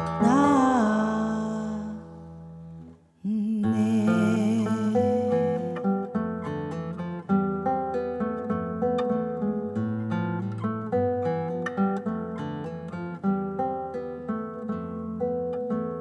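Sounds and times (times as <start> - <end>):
classical guitar fingerpicking: 0.0 - 16.0.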